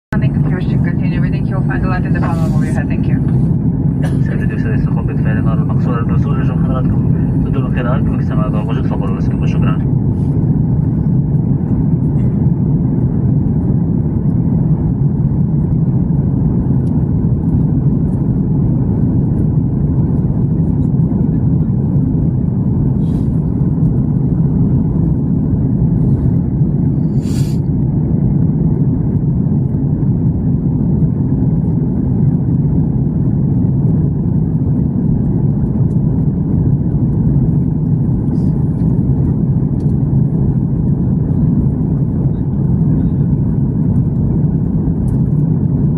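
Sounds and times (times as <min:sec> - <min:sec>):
airliner cabin low rumble: 0:00.1 - 0:45.9.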